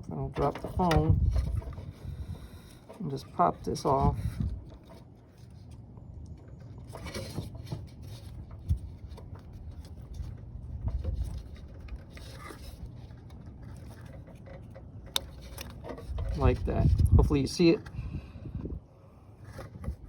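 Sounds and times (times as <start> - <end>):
low rumbling handling noise: 0.0 - 20.0.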